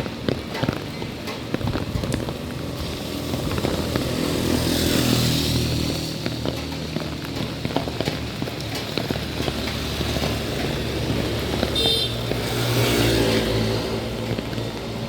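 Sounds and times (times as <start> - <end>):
vehicles passing on wet road: 0.0 - 15.0.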